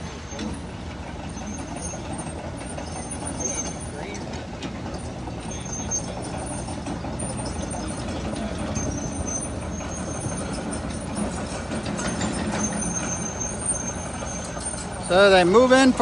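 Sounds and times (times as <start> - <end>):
excavator diesel engines running: 0.0 - 16.0.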